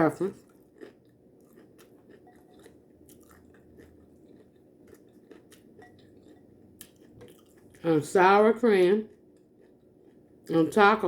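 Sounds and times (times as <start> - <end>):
faint chewing with crunches: 0.0 - 11.0.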